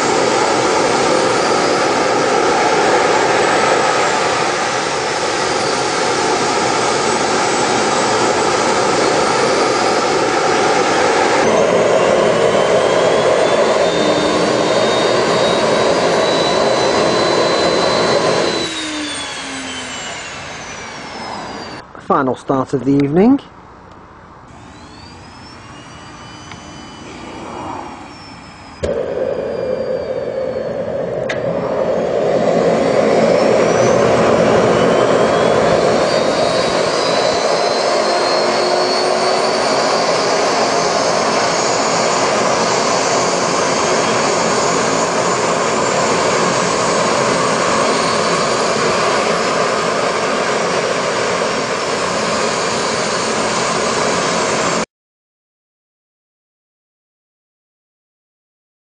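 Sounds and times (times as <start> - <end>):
jet turbine exhaust rush: 0.0 - 23.3, 24.5 - 54.9
faint high whine: 0.0 - 23.5, 24.5 - 54.8.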